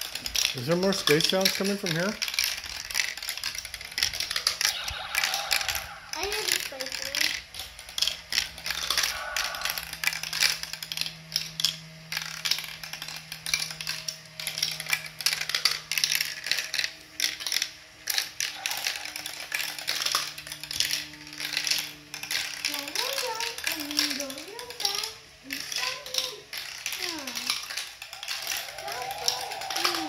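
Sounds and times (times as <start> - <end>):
chain elevator clicking: 0.0 - 30.0
low motor hum: 0.0 - 30.0
marbles rattling through plastic track: 0.0 - 30.0.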